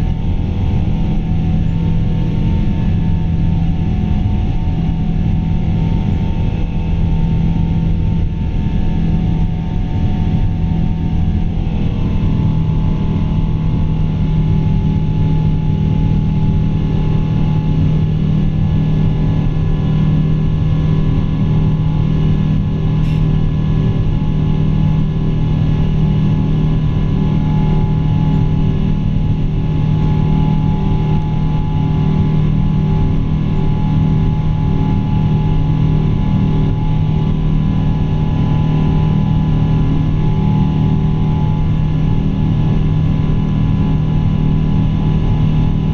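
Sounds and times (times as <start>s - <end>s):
jet engines droning and whining: 0.0s - 45.9s.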